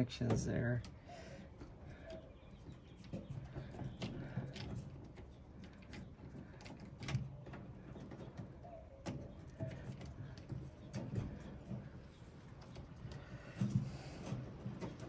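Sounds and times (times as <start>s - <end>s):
bird calling: 0.5s - 15.0s.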